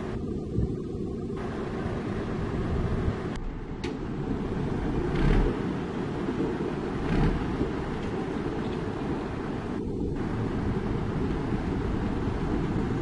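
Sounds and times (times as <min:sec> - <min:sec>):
truck idling: 0:01.3 - 0:13.0
heavy diesel machinery running: 0:01.4 - 0:13.0.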